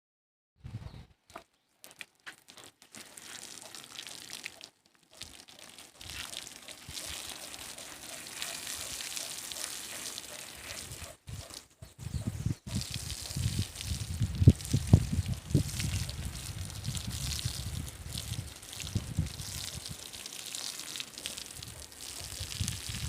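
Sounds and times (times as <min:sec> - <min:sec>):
water spraying and splashing: 0:02.4 - 0:11.7, 0:12.4 - 0:23.0.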